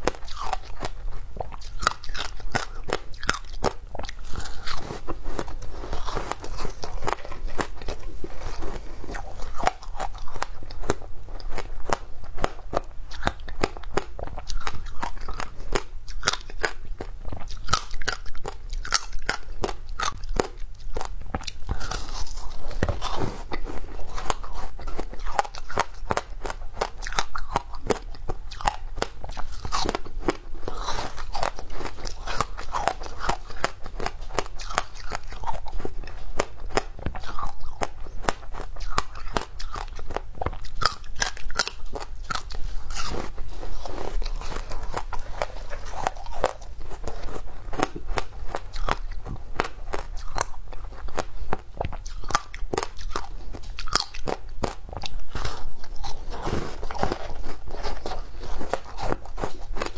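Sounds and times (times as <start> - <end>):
teeth crunching frozen ice: 0.0 - 59.9.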